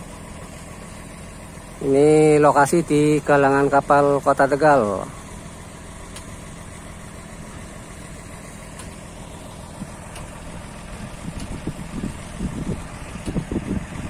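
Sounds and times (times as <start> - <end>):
winch engine idling: 0.0 - 14.0.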